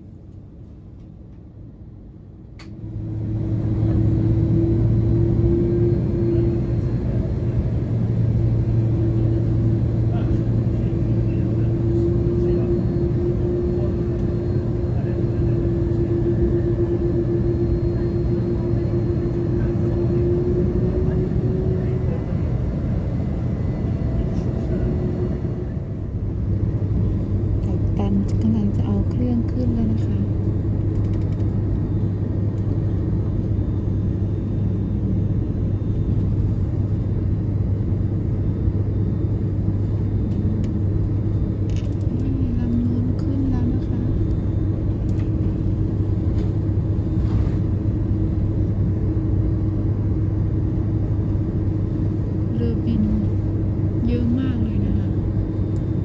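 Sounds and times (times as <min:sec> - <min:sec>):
low vehicle rumble: 0:02.6 - 0:56.0.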